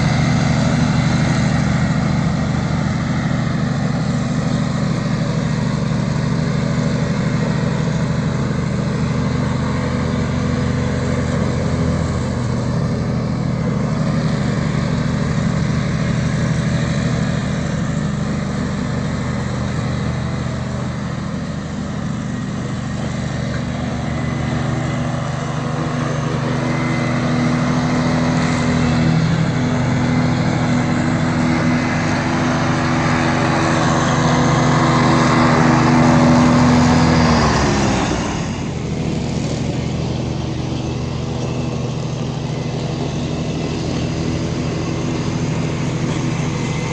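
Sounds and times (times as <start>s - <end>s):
ride-on mower engine mowing: 0.0s - 46.9s.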